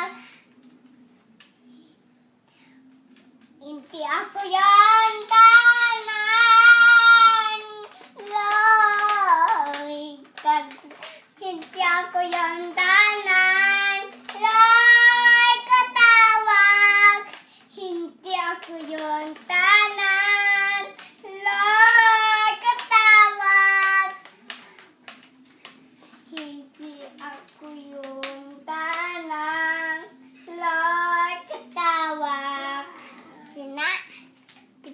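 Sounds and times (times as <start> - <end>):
young child singing: 3.6 - 24.2, 26.3 - 34.1.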